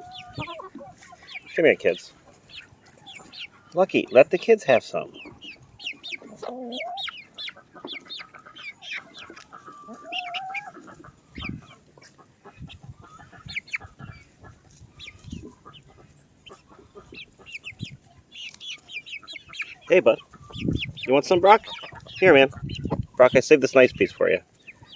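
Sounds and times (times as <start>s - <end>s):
chicken drawn-out calls: 0.0s - 23.9s
chickens clucking: 0.0s - 24.9s.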